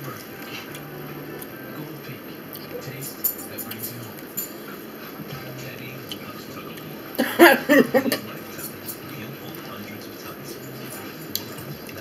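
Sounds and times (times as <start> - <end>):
person's voice: 0.0 - 12.0.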